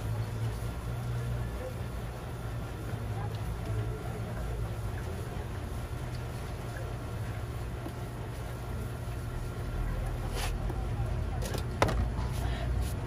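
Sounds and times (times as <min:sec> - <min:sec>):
street background rumble: 0:00.0 - 0:13.0.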